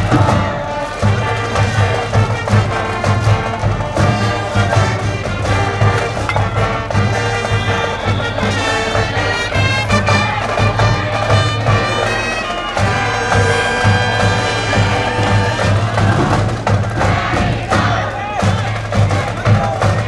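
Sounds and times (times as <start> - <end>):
brass band playing: 0.0 - 19.3
steady drum beat: 0.0 - 20.0.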